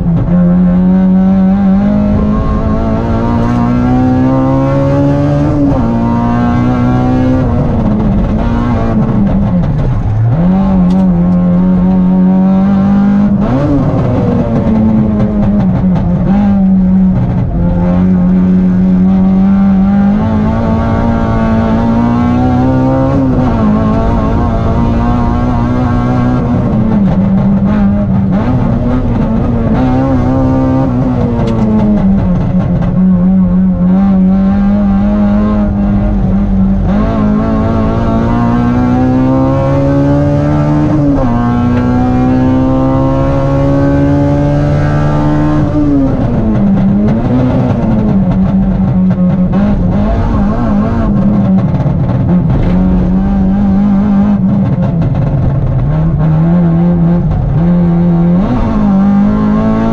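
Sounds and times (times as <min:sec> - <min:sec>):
car engine revving in cabin: 0:00.0 - 0:59.9.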